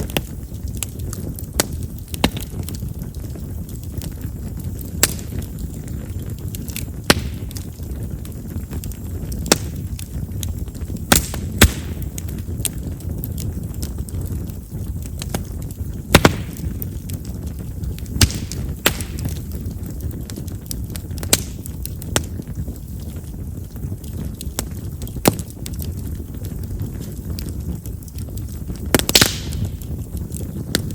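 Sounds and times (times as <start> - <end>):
fire popping and crackling: 0.0 - 30.9
low steady fire rumble: 0.0 - 30.9.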